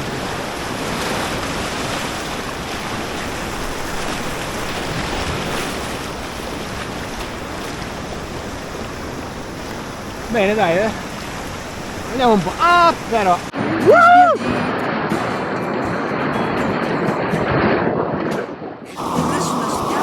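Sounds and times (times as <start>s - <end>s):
fast river current rushing: 0.0s - 17.6s, 19.0s - 20.0s.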